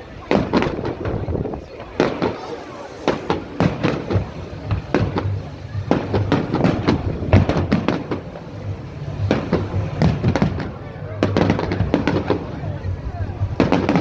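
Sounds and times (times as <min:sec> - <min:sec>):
fireworks bangs and cracks: 0:00.0 - 0:14.0
low continuous rumble: 0:00.0 - 0:14.0.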